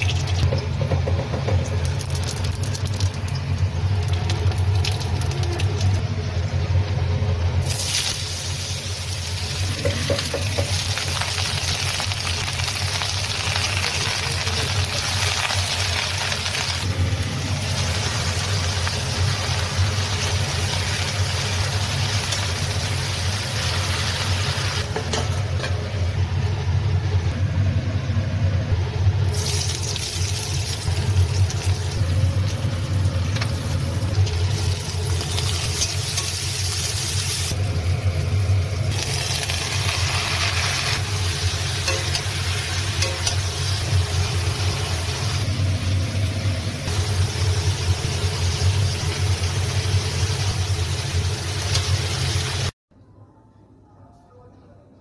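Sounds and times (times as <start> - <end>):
oil sizzling with frying vegetables: 0.0 - 52.8.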